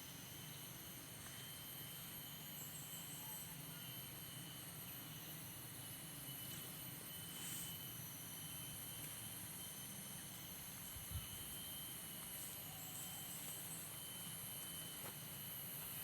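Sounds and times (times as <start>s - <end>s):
insects chirring: 0.2s - 16.0s.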